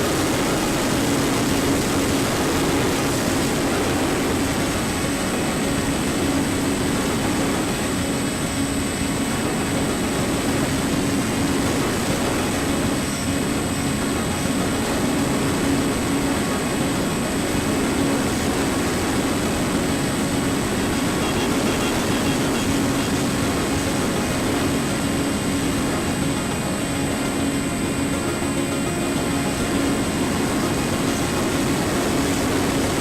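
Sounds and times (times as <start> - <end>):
electric motor and propeller droning: 0.0 - 33.0
wind rush: 0.0 - 33.0.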